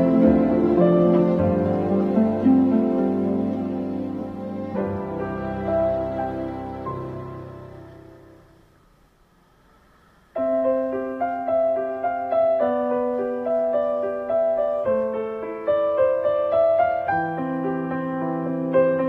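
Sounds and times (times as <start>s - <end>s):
calm piano music: 0.0s - 8.8s, 10.3s - 19.0s.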